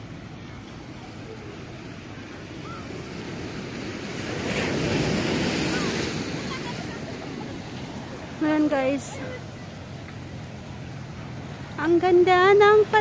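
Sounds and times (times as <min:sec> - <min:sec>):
sea waves washing onto sand: 0:00.0 - 0:13.0.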